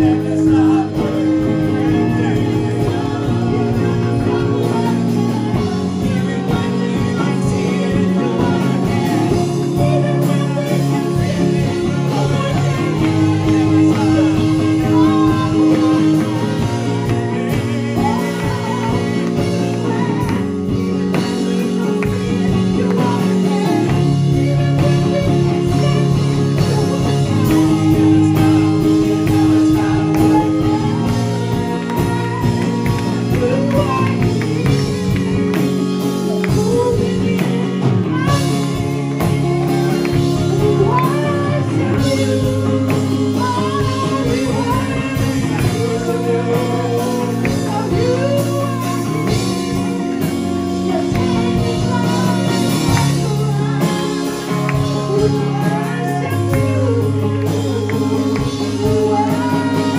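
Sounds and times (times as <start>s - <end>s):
keyboard and band accompaniment: 0.0s - 59.9s
person singing into a microphone: 0.0s - 59.9s.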